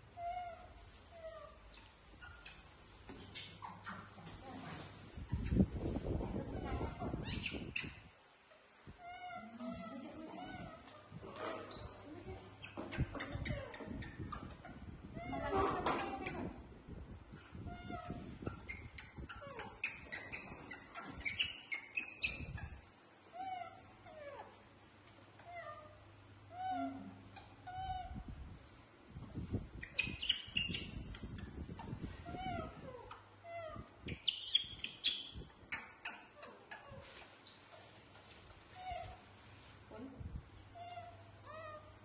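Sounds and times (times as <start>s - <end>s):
baby monkeys cooing and squeaking: 0.2s - 4.2s, 5.2s - 8.1s, 9.0s - 16.6s, 17.5s - 24.6s, 25.4s - 28.3s, 29.4s - 39.3s.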